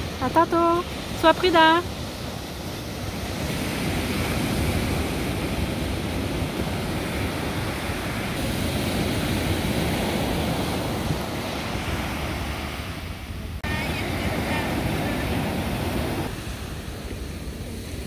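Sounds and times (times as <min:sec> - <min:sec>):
ocean waves breaking on a beach: 0:00.0 - 0:18.0.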